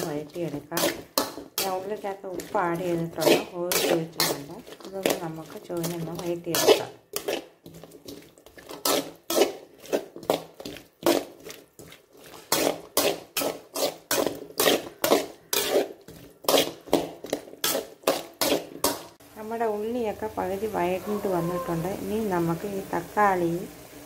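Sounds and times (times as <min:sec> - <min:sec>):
spatula scraping a pan: 0:00.0 - 0:19.2, 0:21.0 - 0:22.3
onions sizzling in oil: 0:00.0 - 0:24.0.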